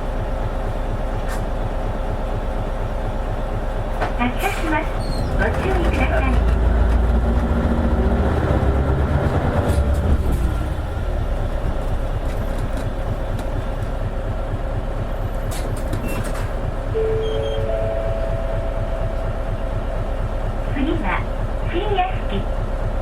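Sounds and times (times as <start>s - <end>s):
bus diesel engine accelerating: 0.0s - 23.0s
road noise: 0.0s - 23.0s.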